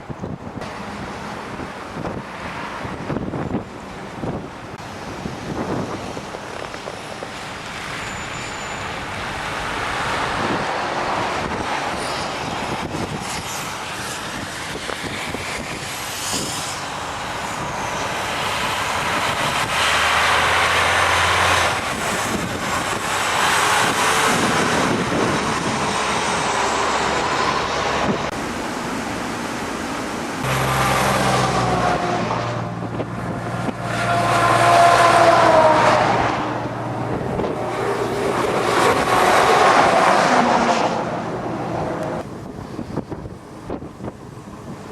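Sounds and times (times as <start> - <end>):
vehicles passing: 0.0 - 44.9
wind blowing: 0.0 - 44.9.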